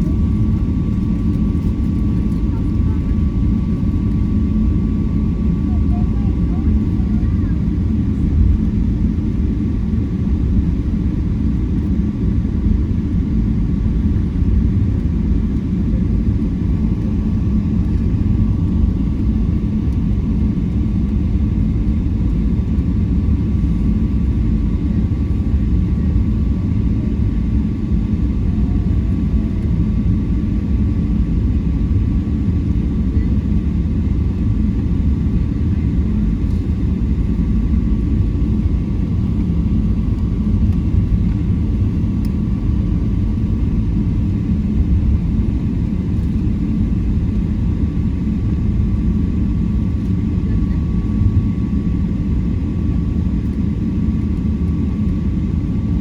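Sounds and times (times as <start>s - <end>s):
airplane rumble: 0.0s - 56.0s.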